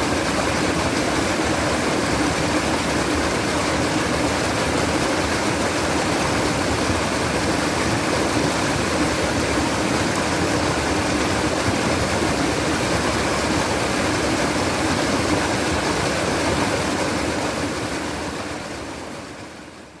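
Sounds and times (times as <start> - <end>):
stream water rushing and trickling: 0.0 - 20.0.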